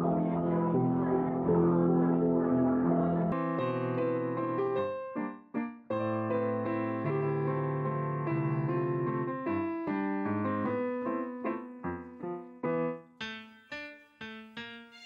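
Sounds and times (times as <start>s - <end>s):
piano chords and notes: 0.0s - 15.0s.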